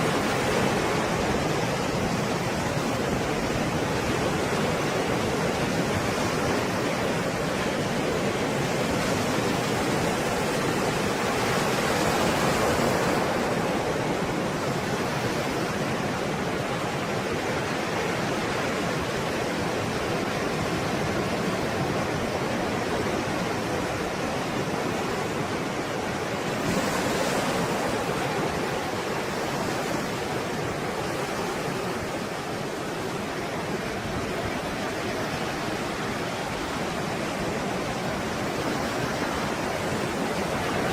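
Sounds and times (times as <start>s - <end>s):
stormy sea waves breaking: 0.0s - 40.9s.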